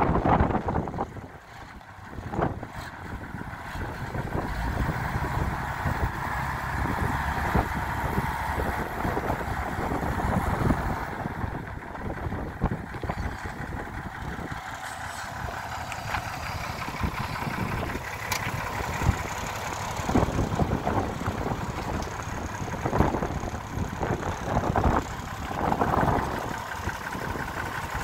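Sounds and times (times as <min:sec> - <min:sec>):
truck diesel engine rumbling: 0:00.0 - 0:28.0.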